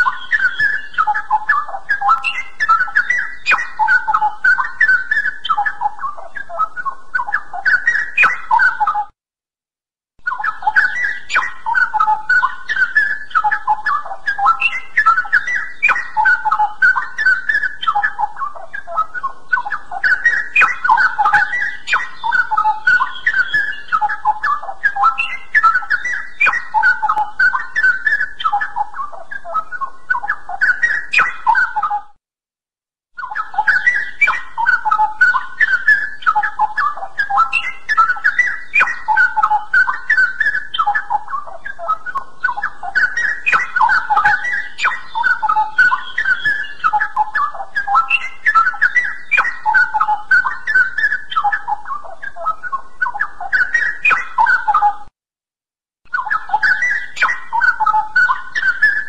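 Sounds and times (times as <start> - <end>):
bird singing whistled phrases: 0.0 - 9.1, 10.2 - 32.1, 33.2 - 55.1, 56.1 - 59.0.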